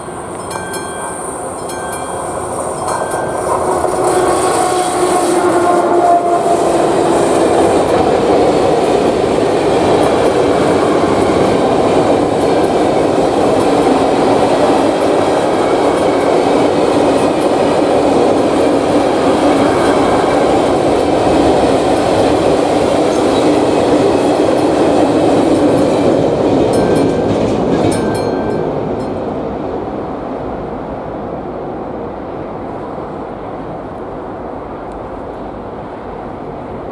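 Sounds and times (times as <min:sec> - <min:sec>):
freight train rumbling on rails: 0:00.0 - 0:36.9.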